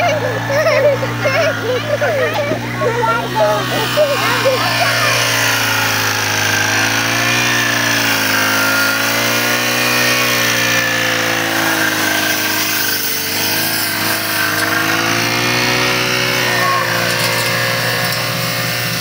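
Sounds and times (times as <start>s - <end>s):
brush cutter engine cutting grass: 0.0s - 19.0s.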